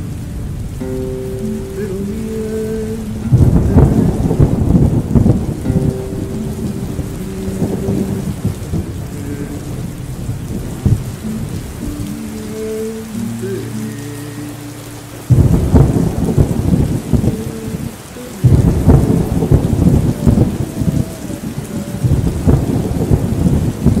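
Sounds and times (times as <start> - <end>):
thunder cracking and rumbling: 0.0 - 12.7, 15.3 - 24.0
low held tones: 0.0 - 24.0
steady rain: 0.0 - 24.0.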